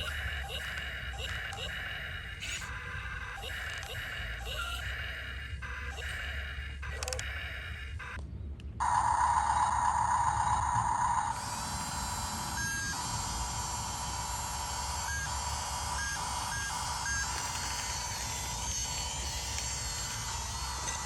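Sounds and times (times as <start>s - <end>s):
excavator running: 0.0s - 8.2s, 8.8s - 21.0s.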